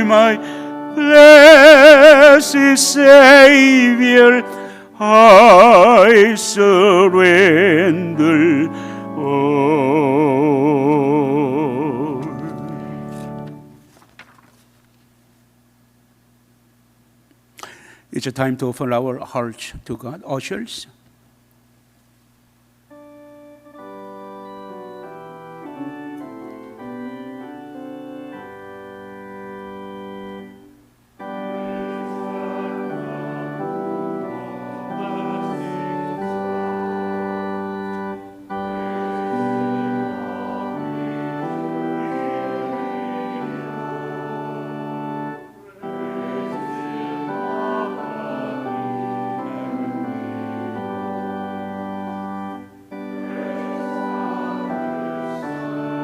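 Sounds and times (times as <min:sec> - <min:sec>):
organ music with held chords: 0:00.0 - 0:19.0, 0:22.4 - 0:56.0.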